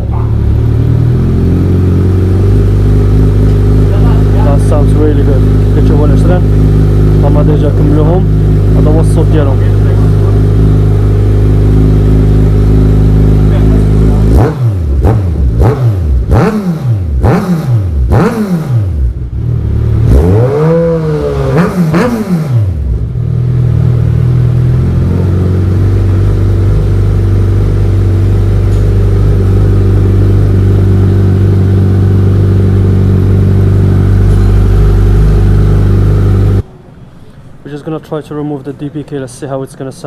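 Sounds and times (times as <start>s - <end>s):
motorcycle engine revving and idling: 0.0s - 36.7s.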